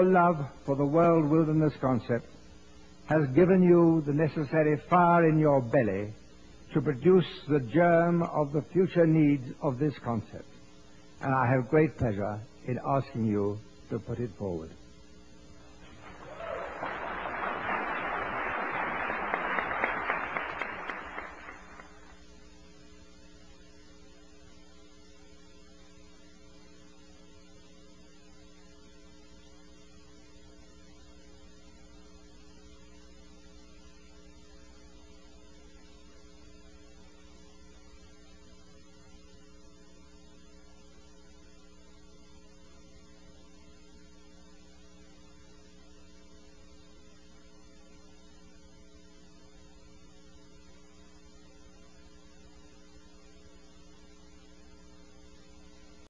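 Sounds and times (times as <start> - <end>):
background hiss: 0.0 - 56.0
faint electrical hum: 0.0 - 56.0.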